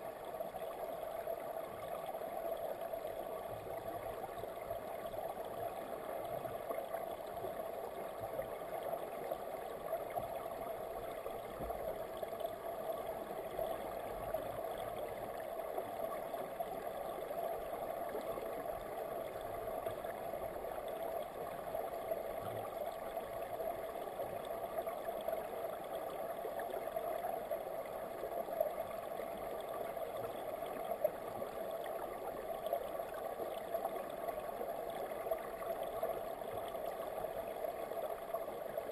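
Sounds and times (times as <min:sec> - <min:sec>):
muffled underwater river current: 0:00.0 - 0:38.9.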